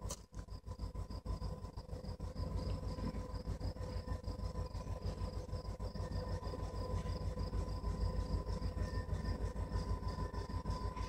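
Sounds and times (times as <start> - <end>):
diesel locomotive rumble: 0.0 - 11.0
faint steady whine: 0.0 - 11.0
insects chirping: 0.0 - 11.0.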